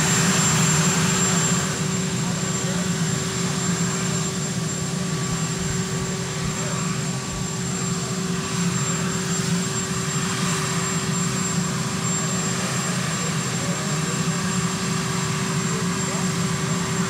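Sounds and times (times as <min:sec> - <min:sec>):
engine and rotor rush: 0:00.0 - 0:17.0
helicopter turbine whine: 0:00.0 - 0:17.0.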